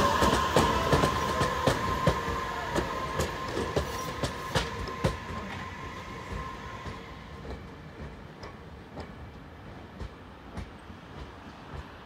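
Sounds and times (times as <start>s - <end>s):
train wheels clicking over rail joints: 0.0s - 12.0s.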